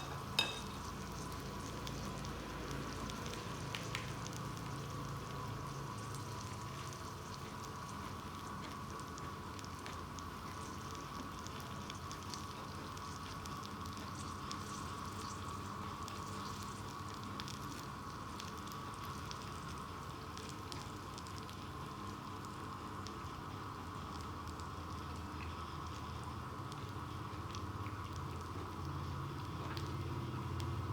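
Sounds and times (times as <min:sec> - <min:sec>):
meat and vegetables sizzling: 0:00.0 - 0:30.9.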